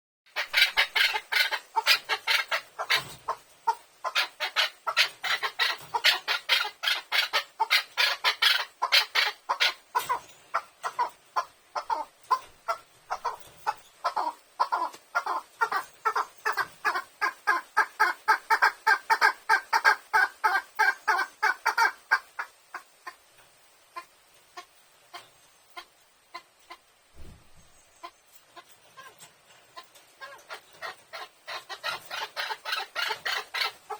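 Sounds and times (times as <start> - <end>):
partridge clucking calls: 0.3 - 33.9.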